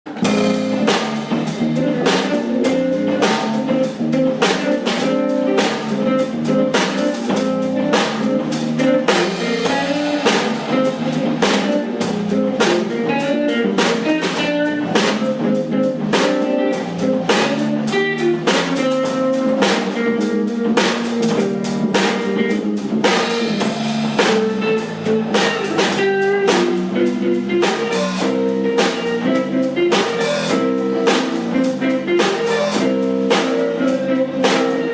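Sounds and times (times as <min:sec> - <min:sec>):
blues band playing: 0:00.1 - 0:34.9
drum kit steady beat: 0:00.1 - 0:34.9.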